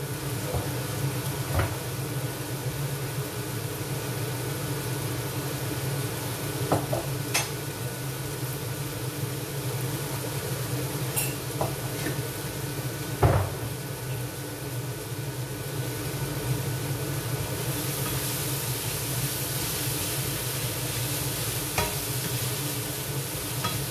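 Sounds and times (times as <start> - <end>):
low hum and hiss: 0.0 - 23.9.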